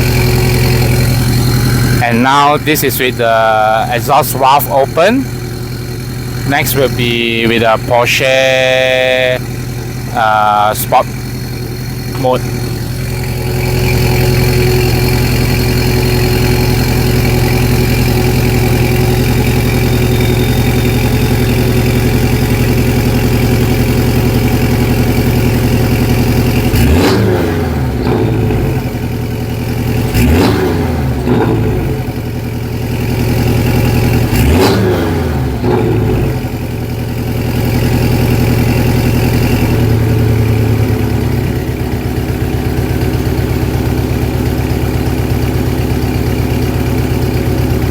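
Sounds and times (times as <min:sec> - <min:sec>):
engine revving: 0:00.0 - 0:47.9
sports car engine idling: 0:00.0 - 0:47.9.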